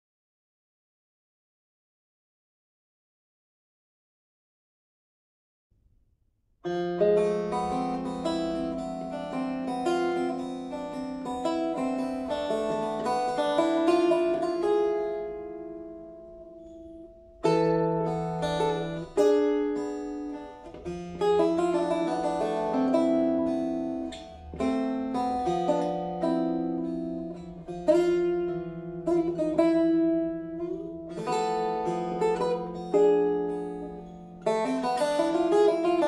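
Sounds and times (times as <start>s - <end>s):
plucked lute melody: 6.6s - 36.0s.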